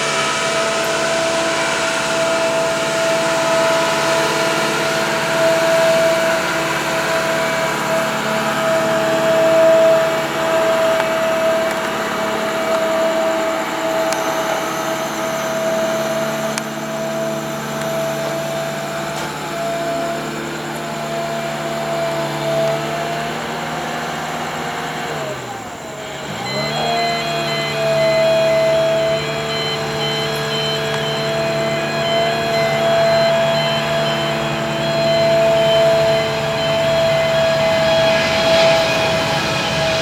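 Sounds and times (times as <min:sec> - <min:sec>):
engine whining: 0:00.0 - 0:40.0.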